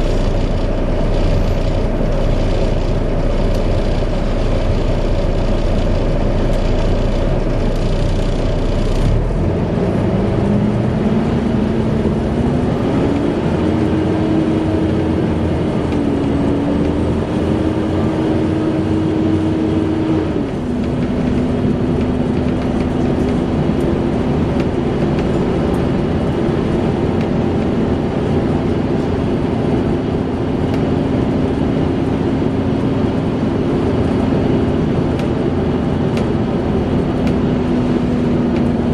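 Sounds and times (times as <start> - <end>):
bus engine running: 0.0 - 38.9
engine cooling fan whine: 0.0 - 38.9.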